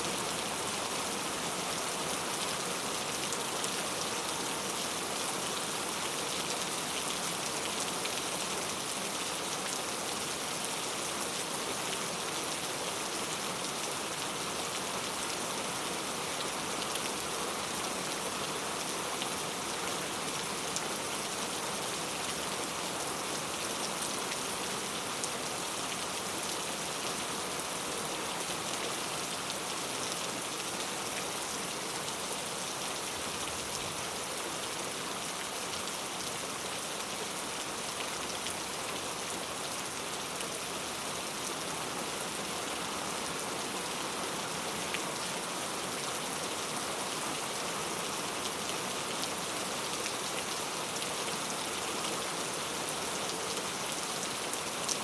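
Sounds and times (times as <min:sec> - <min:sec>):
heavy rain on street: 0:00.0 - 0:55.0.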